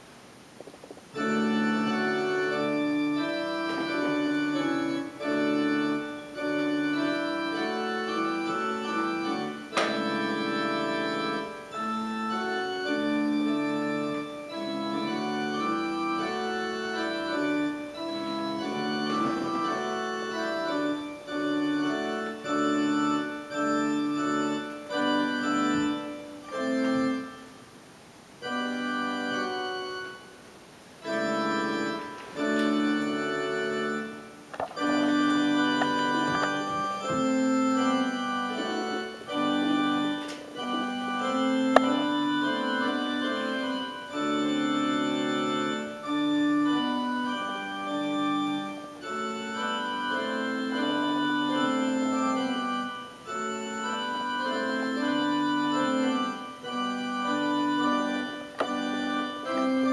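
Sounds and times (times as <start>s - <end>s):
electronic organ playing hymn chords: 0.6s - 27.7s, 28.3s - 59.9s.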